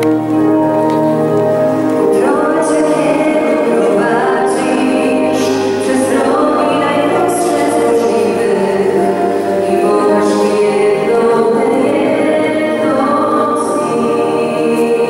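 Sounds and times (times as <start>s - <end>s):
sustained instrumental accompaniment: 0.0s - 15.0s
woman singing: 2.0s - 15.0s.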